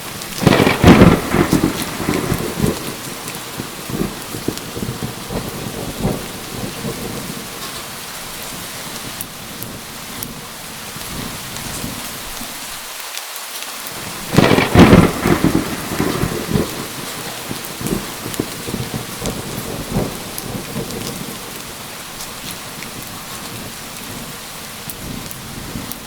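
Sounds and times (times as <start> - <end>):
thunder crackling and rumbling: 0.0 - 12.8, 13.9 - 26.0
heavy rain: 0.0 - 26.0
loud thunderclap: 0.2 - 12.2, 13.9 - 26.0.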